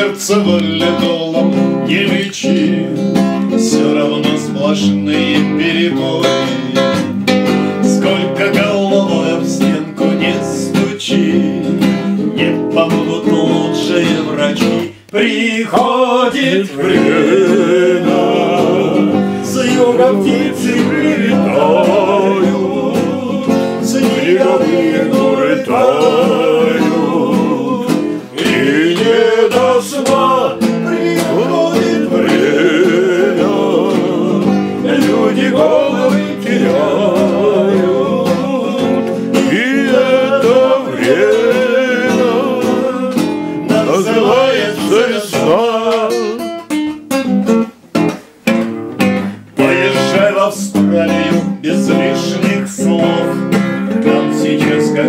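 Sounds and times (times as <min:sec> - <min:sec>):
man singing: 0:00.0 - 0:46.6, 0:49.4 - 0:55.0
acoustic guitar: 0:00.0 - 0:55.0.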